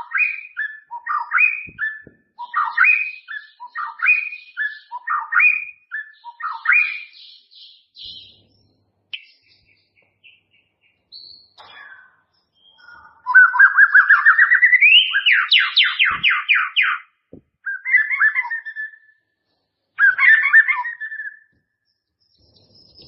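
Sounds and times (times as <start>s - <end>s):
bird whistling song: 0.0s - 19.4s, 20.0s - 23.0s.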